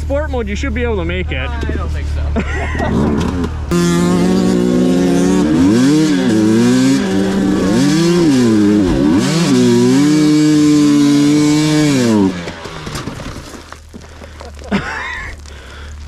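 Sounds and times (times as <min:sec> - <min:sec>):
off-road vehicle engine revving: 0:00.0 - 0:13.5.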